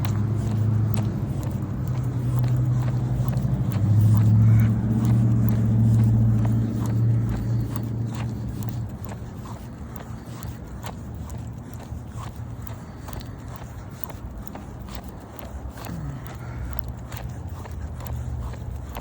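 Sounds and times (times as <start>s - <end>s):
car engine running: 0.0s - 19.0s
light ticks: 0.0s - 19.0s.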